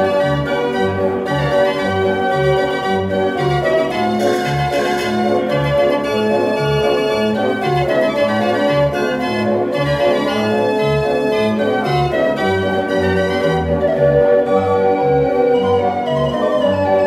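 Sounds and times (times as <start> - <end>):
street organ playing a tune: 0.0 - 17.0.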